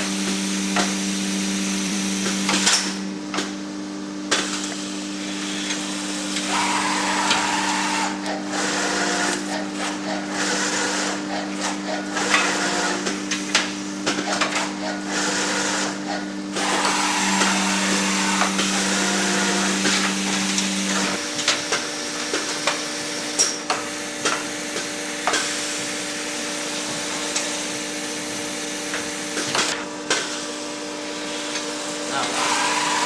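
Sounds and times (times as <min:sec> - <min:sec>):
machine hum: 0:00.0 - 0:33.0.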